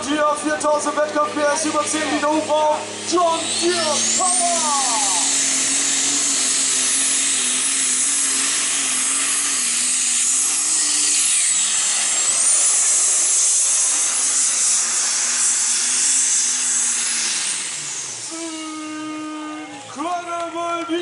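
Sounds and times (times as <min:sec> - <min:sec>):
high whistling engine rush: 0:00.0 - 0:21.0.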